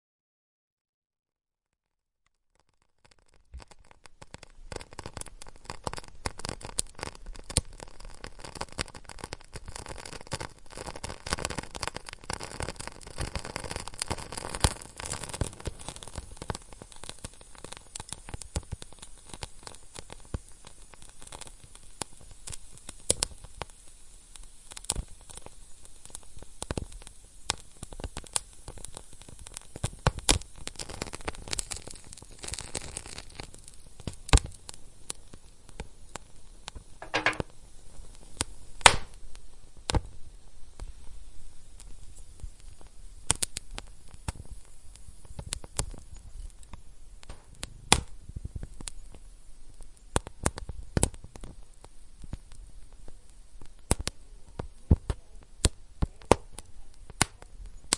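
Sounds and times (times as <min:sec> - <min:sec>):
wood fire crackling: 0:02.3 - 0:57.9.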